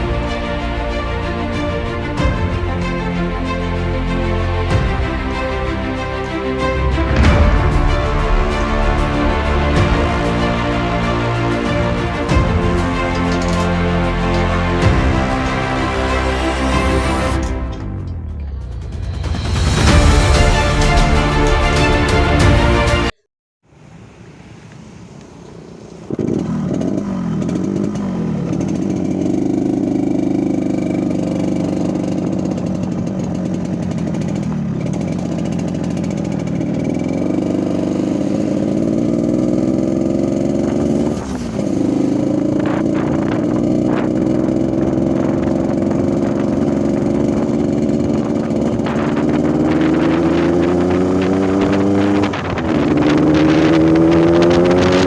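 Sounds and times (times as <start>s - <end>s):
two-stroke motorcycle engine: 0.0s - 23.1s, 24.6s - 55.0s.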